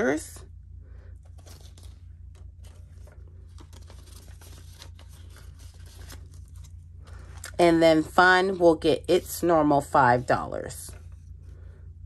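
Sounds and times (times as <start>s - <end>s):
paper banknotes rustling: 1.1s - 11.7s.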